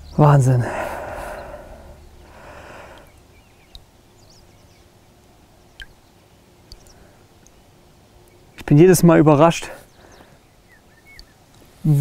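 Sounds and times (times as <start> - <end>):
faint bird chirps: 0.0 - 8.7, 9.6 - 12.0.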